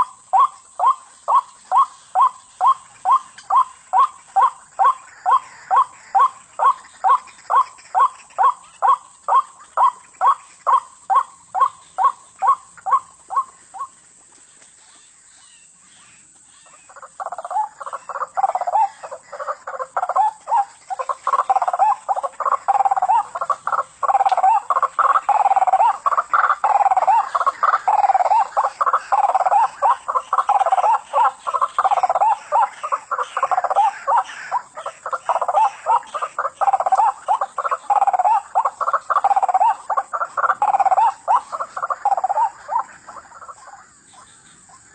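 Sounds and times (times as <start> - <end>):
waterhen croaking calls: 0.0 - 14.0, 16.5 - 44.9.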